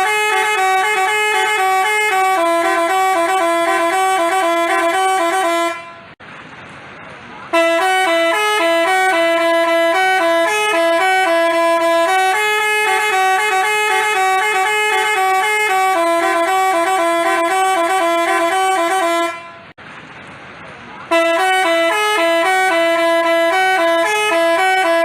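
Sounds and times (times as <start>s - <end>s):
musical bus horn melody: 0.0s - 6.2s, 7.5s - 19.8s, 21.1s - 25.0s.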